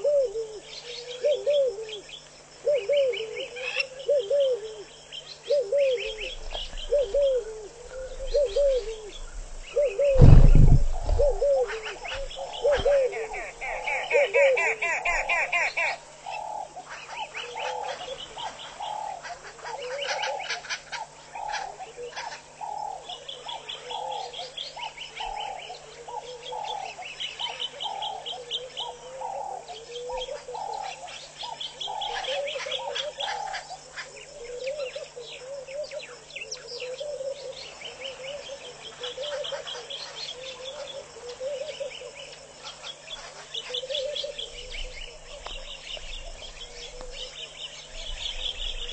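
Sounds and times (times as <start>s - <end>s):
bird low call: 0.0s - 48.9s
birds chirping: 0.6s - 48.9s.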